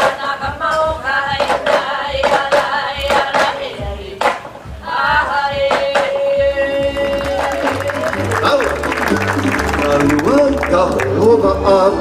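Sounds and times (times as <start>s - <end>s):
chanting: 0.0s - 12.0s.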